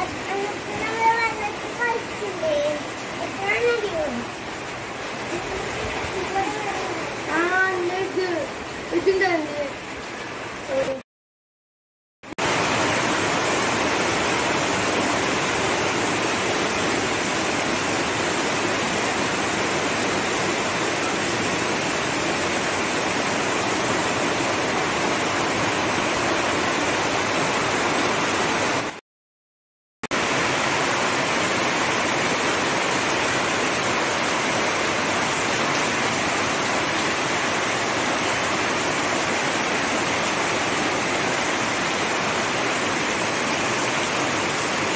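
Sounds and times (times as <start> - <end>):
heavy rain pouring: 0.0 - 11.0, 12.3 - 29.0, 30.1 - 44.9.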